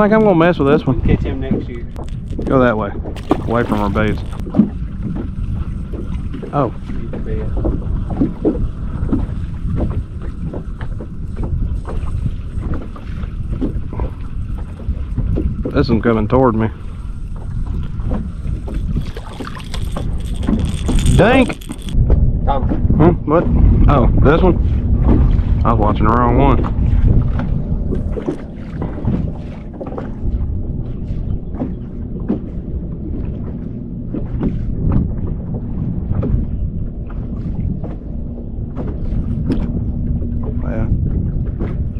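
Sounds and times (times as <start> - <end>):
boat engine low rumble: 0.0 - 41.9
wind buffeting microphone: 0.0 - 41.9
water knocking against hull: 0.1 - 23.7, 24.5 - 41.9.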